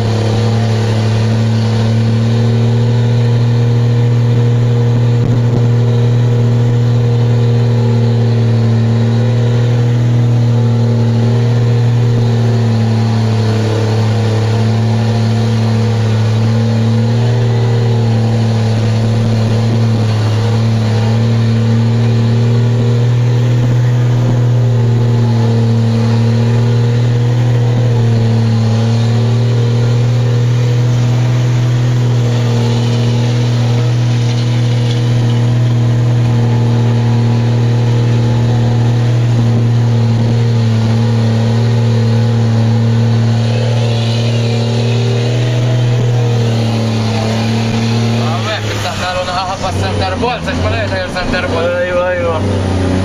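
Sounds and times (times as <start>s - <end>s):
loud diesel truck engine: 0.0s - 53.0s.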